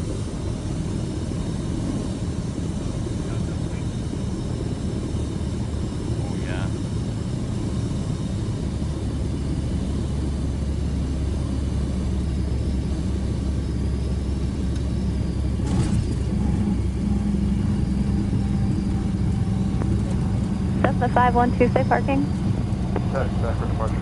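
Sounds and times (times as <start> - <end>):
airplane engine and propeller droning: 0.0 - 24.0.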